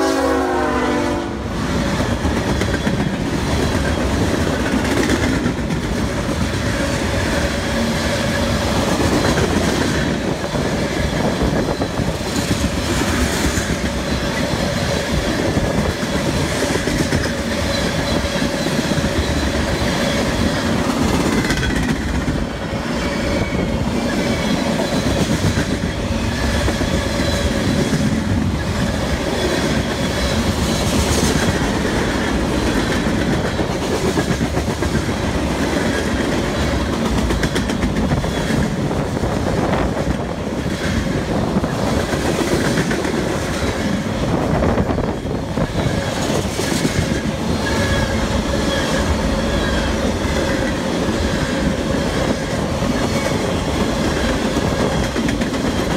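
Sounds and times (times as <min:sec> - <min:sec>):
train wheels rumbling on rail: 0:00.0 - 0:55.9
clickety-clack over rail joints: 0:01.5 - 0:55.9.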